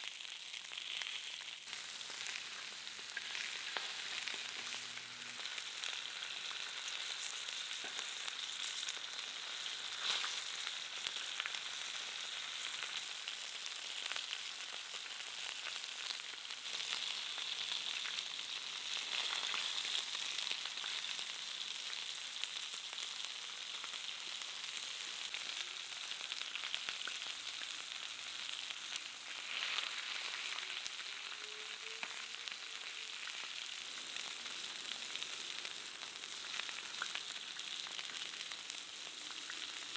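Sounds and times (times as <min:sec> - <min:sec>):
meat and potatoes sizzling in pan: 0:00.0 - 0:39.9.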